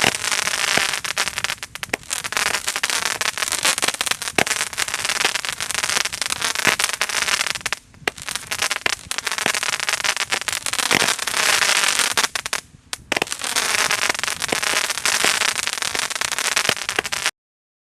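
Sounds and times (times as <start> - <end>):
fireworks crackling: 0.0 - 17.4.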